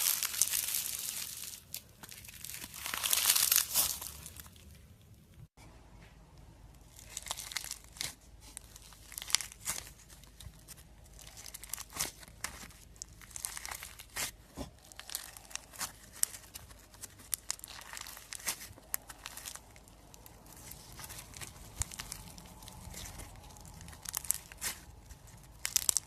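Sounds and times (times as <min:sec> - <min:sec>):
slime crackling and popping: 0:00.0 - 0:05.4, 0:06.9 - 0:26.0.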